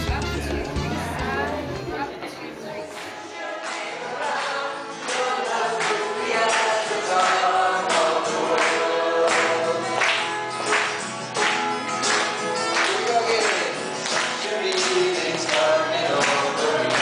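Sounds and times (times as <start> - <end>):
group singing over a beat: 0.0 - 10.8, 13.7 - 17.0.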